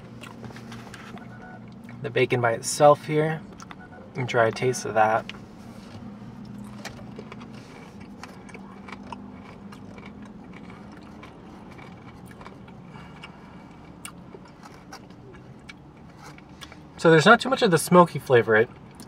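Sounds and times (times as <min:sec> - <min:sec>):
person chewing: 0:00.0 - 0:02.0, 0:03.4 - 0:17.0
low car cabin hum: 0:00.0 - 0:19.0.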